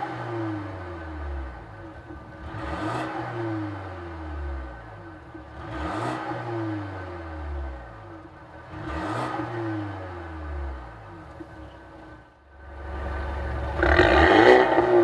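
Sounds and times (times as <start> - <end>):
car engine revving: 0.0 - 11.7, 12.5 - 15.0.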